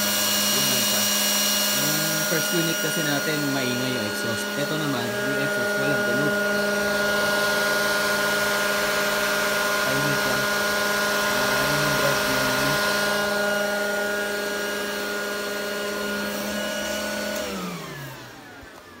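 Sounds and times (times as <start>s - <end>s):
cooling fans whirring: 0.0s - 19.0s.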